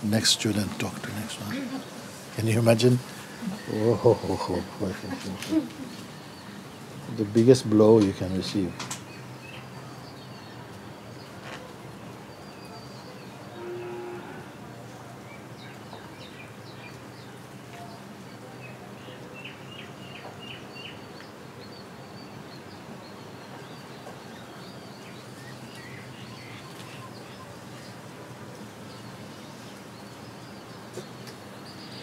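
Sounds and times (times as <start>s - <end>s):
steady background hiss: 0.0s - 32.0s.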